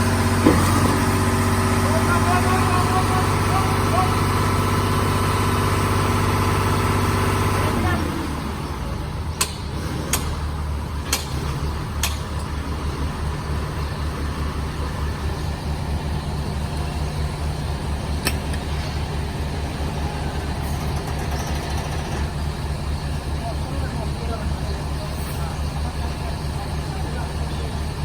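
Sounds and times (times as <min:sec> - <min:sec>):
pump engine humming: 0:00.0 - 0:28.0.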